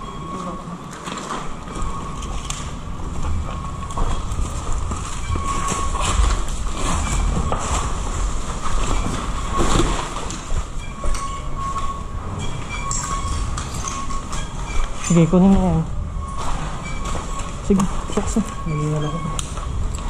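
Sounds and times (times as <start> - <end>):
gear clicks and knocks: 0.0 - 20.0.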